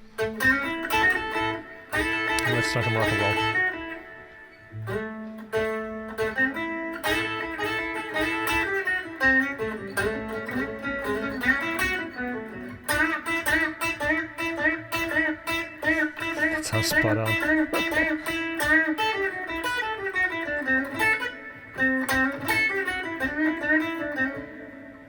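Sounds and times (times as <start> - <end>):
electric guitar rock riff: 0.0 - 25.0.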